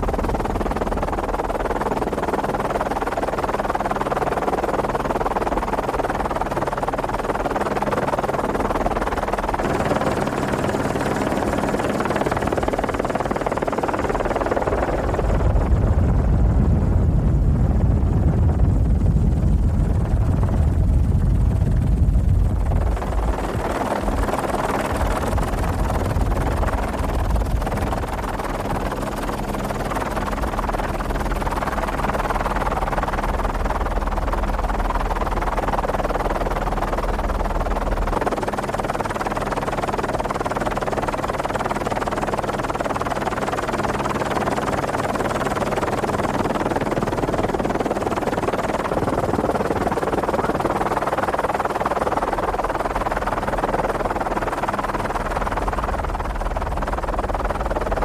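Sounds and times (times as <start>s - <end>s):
helicopter engine and rotor: 0.0s - 58.0s
wind rumble on microphone: 0.0s - 58.0s.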